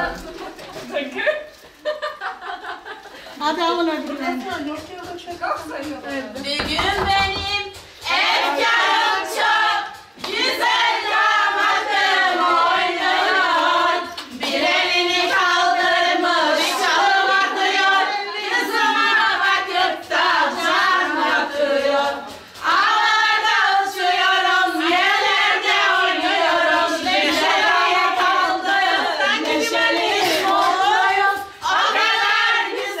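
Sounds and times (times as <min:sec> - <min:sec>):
hand claps: 0:04.3 - 0:33.0
high voices singing: 0:05.8 - 0:33.0.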